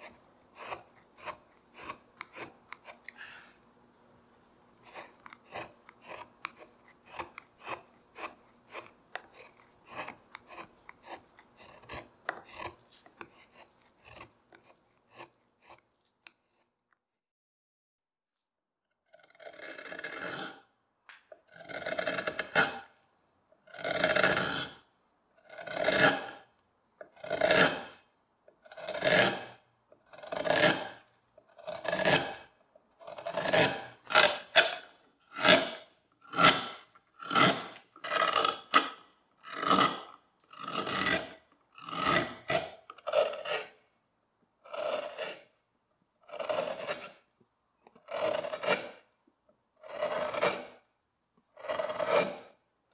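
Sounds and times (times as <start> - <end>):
carving gouge scraping wood: 0.0 - 16.8, 19.1 - 20.7, 21.4 - 23.0, 23.6 - 43.9, 44.6 - 45.6, 46.2 - 49.2, 49.8 - 52.6.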